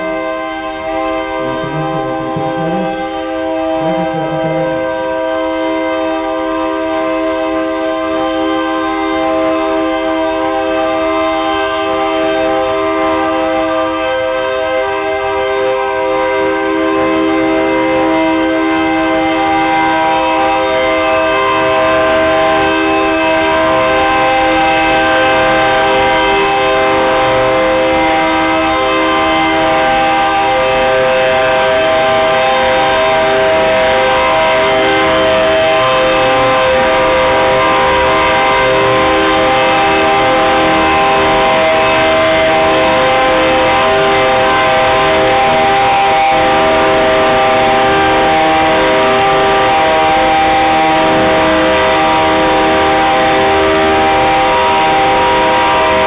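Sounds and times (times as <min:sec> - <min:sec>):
locomotive air horn blast: 0:00.0 - 0:56.0.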